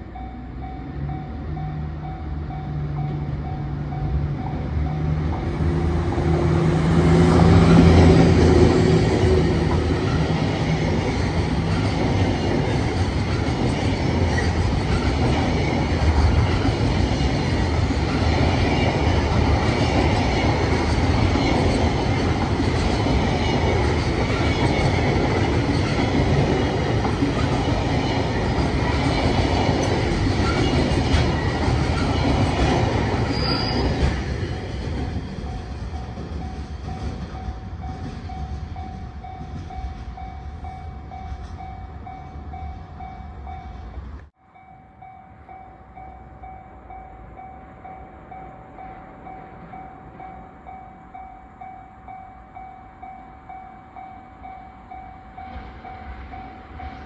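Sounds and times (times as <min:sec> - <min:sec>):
locomotive humming: 0:00.0 - 0:57.0.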